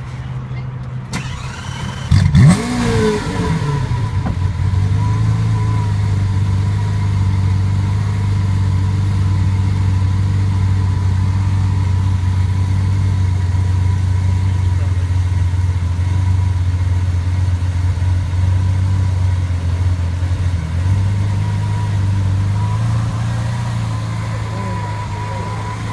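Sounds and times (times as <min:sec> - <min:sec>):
car engine idling: 0:00.0 - 0:25.9
car engine revving: 0:01.1 - 0:25.9.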